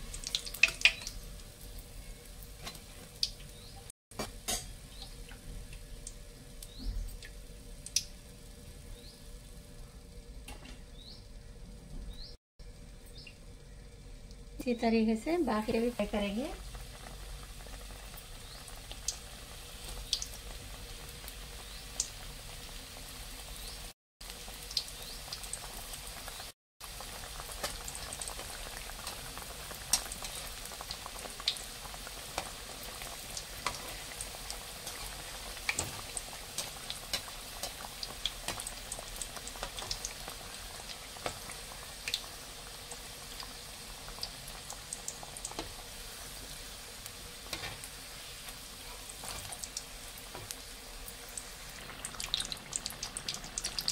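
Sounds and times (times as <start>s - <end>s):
food frying in hot oil: 0.0s - 11.4s, 12.2s - 53.9s.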